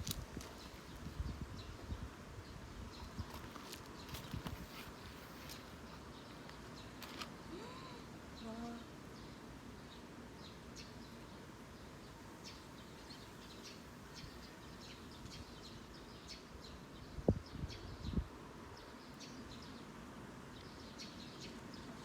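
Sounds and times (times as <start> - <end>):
sparrows chirping: 0.4 - 22.0.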